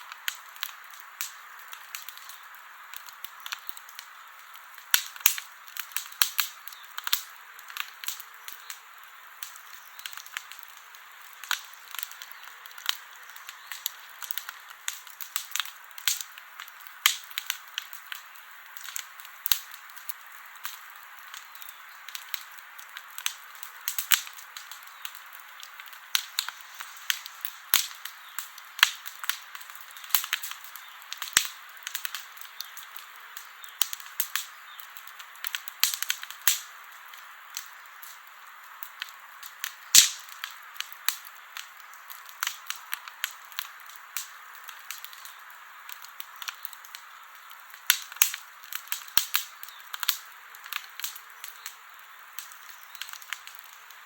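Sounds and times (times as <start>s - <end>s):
wood campfire crackling: 0.0s - 54.0s.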